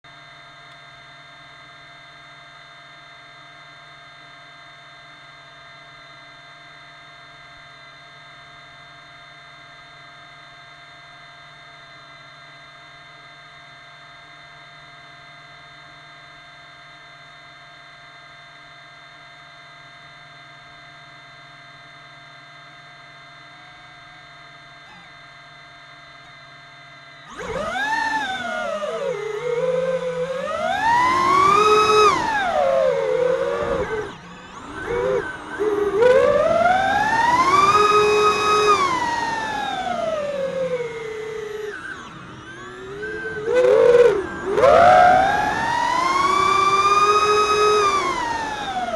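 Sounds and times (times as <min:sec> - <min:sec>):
quadcopter electric hum and whine: 0:00.1 - 0:48.9.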